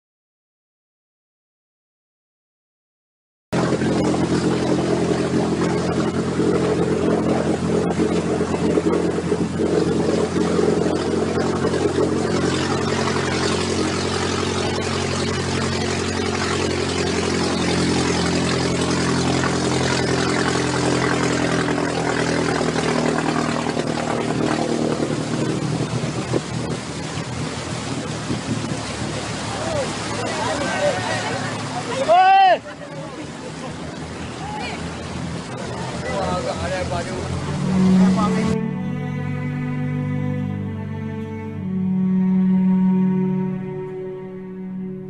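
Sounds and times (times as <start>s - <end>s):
engine running steadily: 3.6s - 45.0s.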